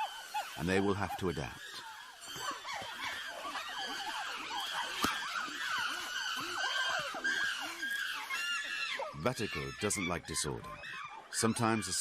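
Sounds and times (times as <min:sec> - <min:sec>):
chimpanzees screaming: 0:00.0 - 0:12.0.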